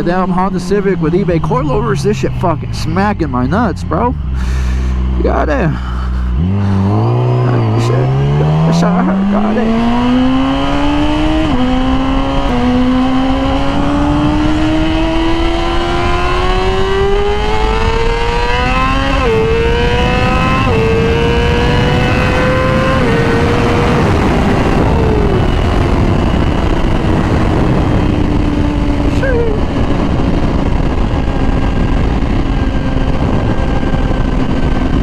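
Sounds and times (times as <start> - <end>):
motorcycle engine accelerating: 0.0 - 35.0
wind rushing over helmet mic: 6.4 - 35.0.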